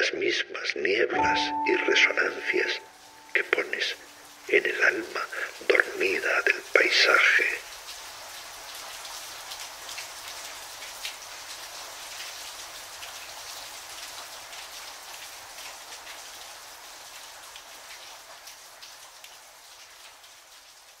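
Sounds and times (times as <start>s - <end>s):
rain drops ticking: 1.2s - 21.0s.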